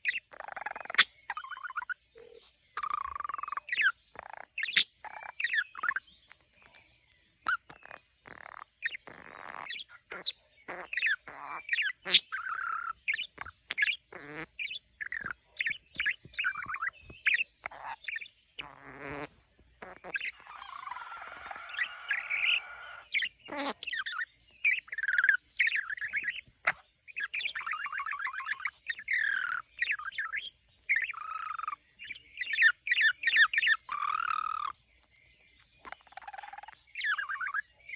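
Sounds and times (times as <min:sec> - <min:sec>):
budgerigar warbling and chattering: 0:00.0 - 0:06.8, 0:07.4 - 0:37.9.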